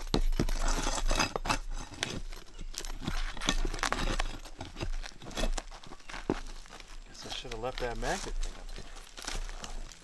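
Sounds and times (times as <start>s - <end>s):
tools scraping roof shingles: 0.0s - 10.0s.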